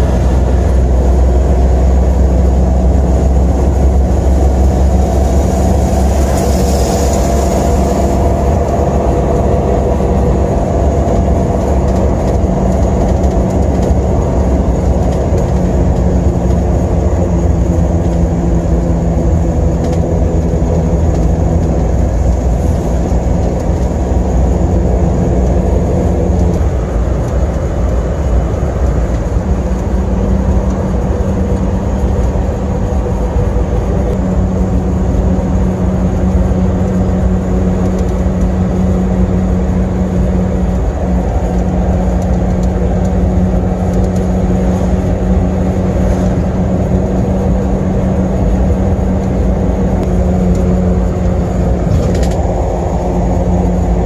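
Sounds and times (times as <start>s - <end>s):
road rumble: 0.0s - 54.0s
truck engine drone: 0.0s - 54.0s.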